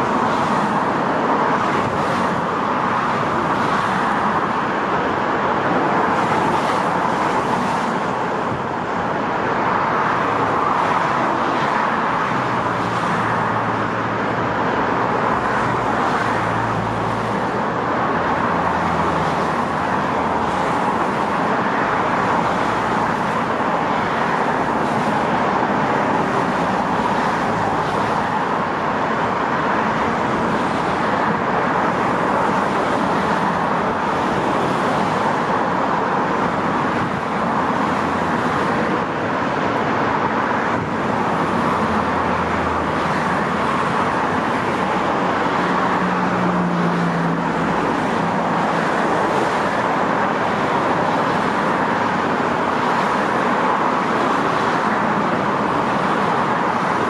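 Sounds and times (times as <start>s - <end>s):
city road traffic: 0.0s - 57.0s.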